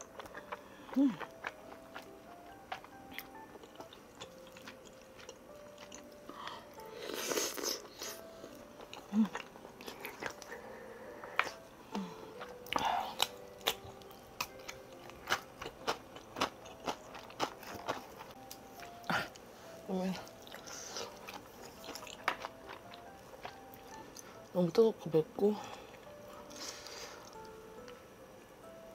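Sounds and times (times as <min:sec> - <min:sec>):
chewing and crunching food: 0:00.0 - 0:24.8
soft background music: 0:00.0 - 0:28.9.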